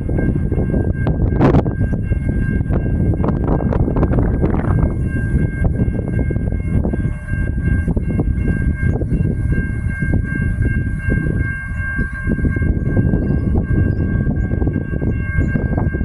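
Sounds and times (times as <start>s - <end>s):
electric train rumble: 0.0s - 16.0s
high-pitched train whine: 0.0s - 16.0s.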